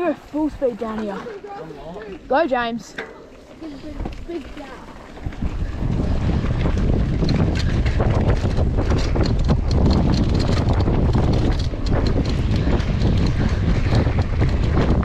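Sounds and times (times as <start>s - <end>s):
bike clattering over rough ground: 0.0s - 15.0s
bike tyres rumbling: 0.0s - 15.0s
wind buffeting microphone: 2.2s - 15.0s.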